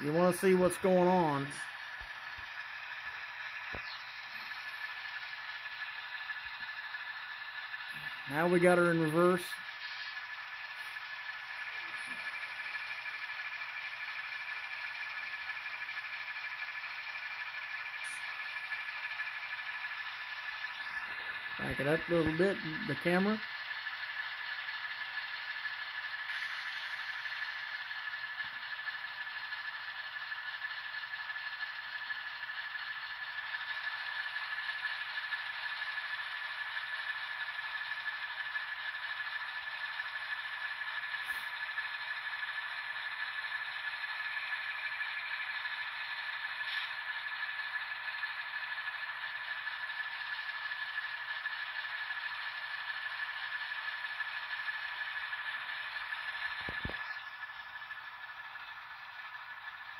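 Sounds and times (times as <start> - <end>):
model train whirring: 0.0 - 59.9
thin high whine: 0.0 - 59.9.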